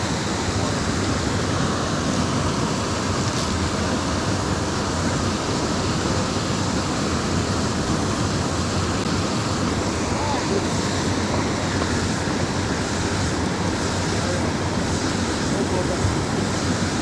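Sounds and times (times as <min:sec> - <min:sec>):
stream water rushing over rocks: 0:00.0 - 0:17.0.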